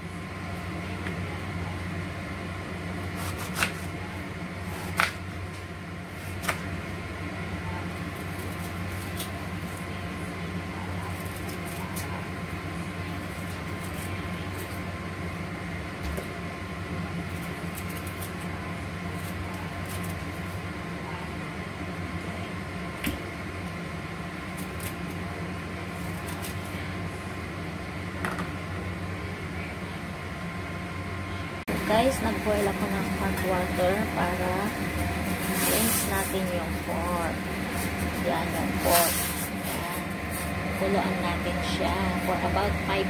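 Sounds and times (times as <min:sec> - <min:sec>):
steady machine hum: 0:00.0 - 0:43.0.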